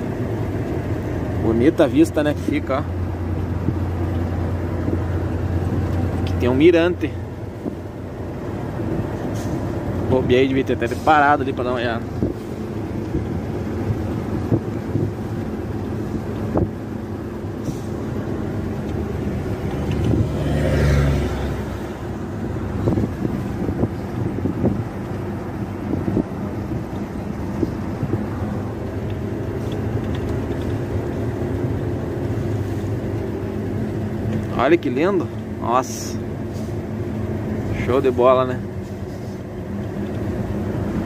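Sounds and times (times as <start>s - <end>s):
diesel truck engine running: 0.0s - 41.0s
tyre and road noise: 0.0s - 41.0s.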